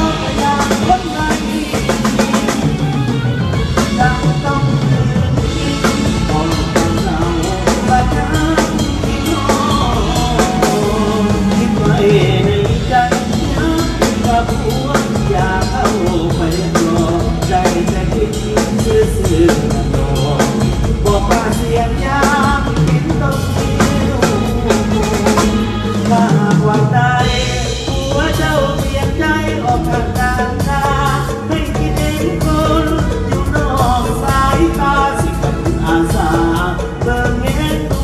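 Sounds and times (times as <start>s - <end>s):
drum kit beat: 0.0s - 38.0s
keyboard: 0.0s - 38.0s
live band music: 0.0s - 38.0s
man singing into microphone: 0.0s - 38.0s.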